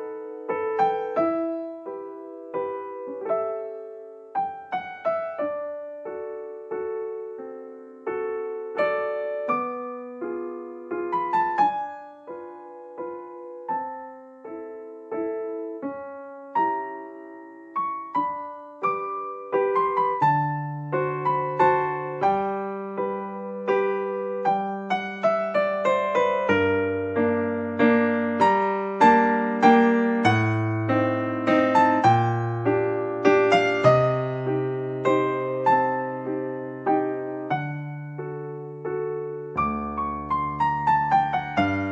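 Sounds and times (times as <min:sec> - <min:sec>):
gentle piano music: 0:00.0 - 0:41.9.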